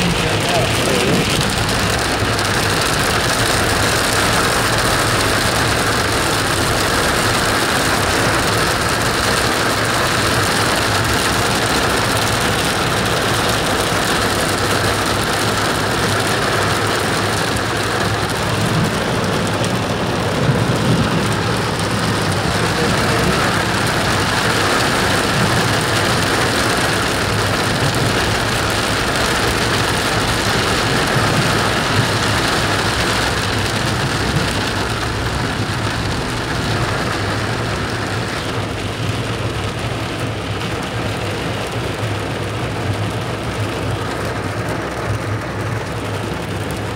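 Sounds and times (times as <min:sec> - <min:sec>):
car engine hum: 0:00.0 - 0:46.9
rain and hail on car roof: 0:00.0 - 0:46.9.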